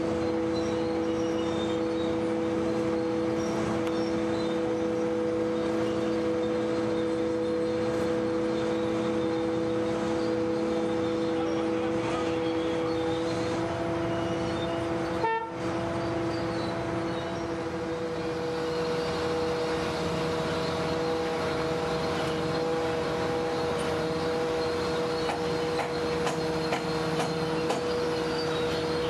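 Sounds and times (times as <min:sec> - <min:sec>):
crane power unit droning whine: 0:00.0 - 0:29.0.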